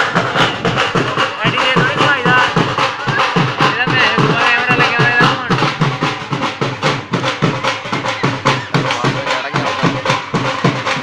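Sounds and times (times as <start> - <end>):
drum beaten fast: 0.0 - 11.0.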